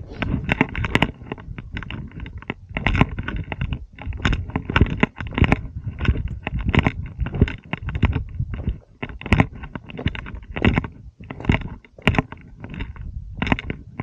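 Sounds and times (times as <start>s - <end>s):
footsteps crunching on loose stones: 0.0s - 14.0s.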